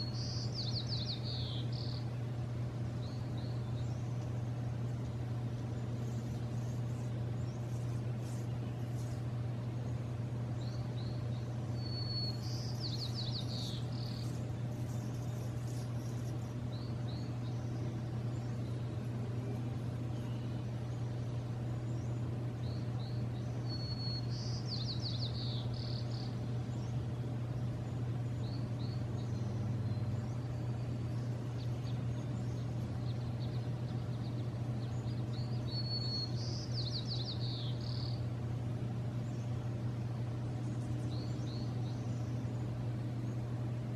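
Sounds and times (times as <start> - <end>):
faint bird chirps: 0.0 - 38.4, 40.5 - 43.5
songbird singing: 0.0 - 43.9
steady low hum: 0.0 - 43.9.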